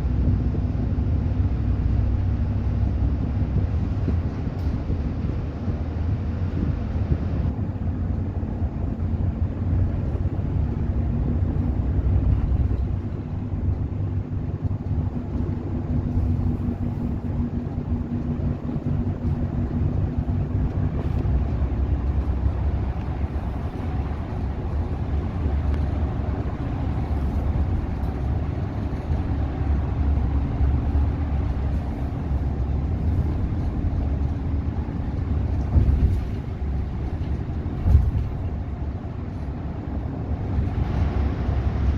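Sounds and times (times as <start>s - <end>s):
bus engine drone: 0.0s - 41.9s
humming engine note: 0.0s - 41.9s
road rumble inside bus: 0.0s - 41.9s.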